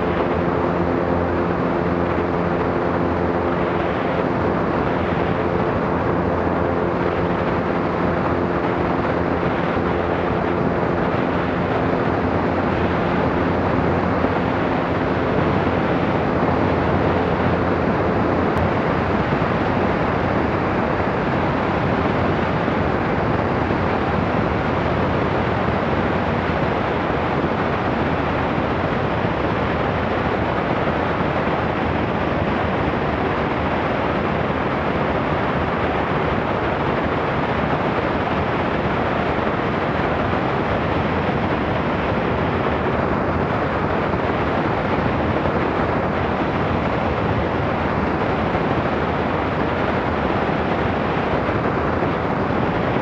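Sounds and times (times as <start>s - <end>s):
aircraft engine and propeller droning: 0.0s - 53.0s.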